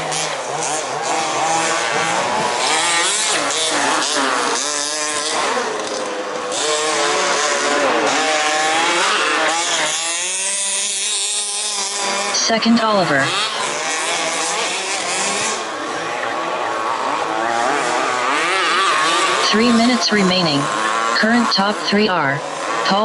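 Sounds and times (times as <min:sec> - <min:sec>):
small two-stroke engines buzzing: 0:00.0 - 0:23.0.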